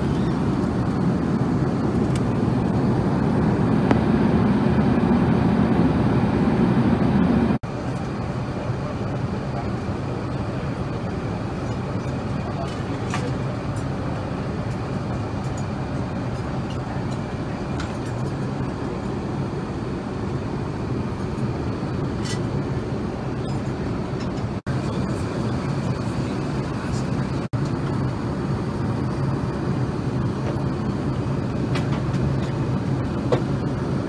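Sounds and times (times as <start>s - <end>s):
airplane cabin engine and airflow rush: 0.0s - 34.0s.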